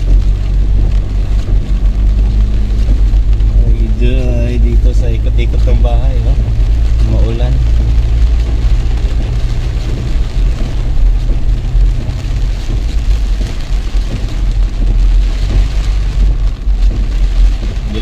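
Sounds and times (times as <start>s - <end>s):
car low rumble: 0.0s - 18.0s
heavy rain on a car roof: 0.0s - 18.0s.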